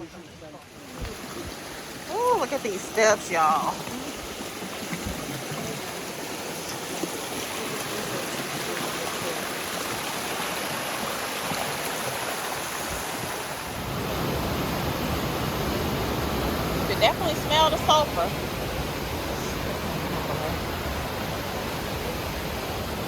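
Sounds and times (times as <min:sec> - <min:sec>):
stream rushing: 0:00.0 - 0:23.0.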